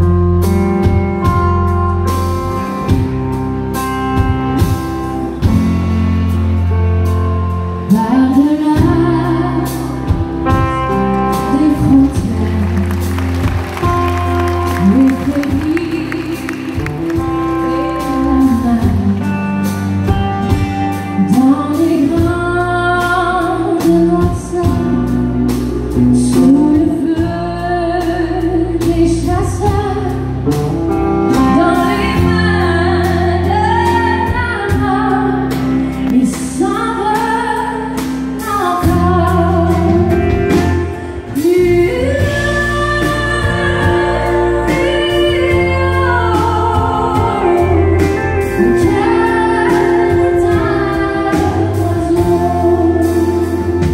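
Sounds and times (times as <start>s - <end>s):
country band playing: 0.0s - 53.9s
woman singing: 7.8s - 30.5s, 31.3s - 53.9s.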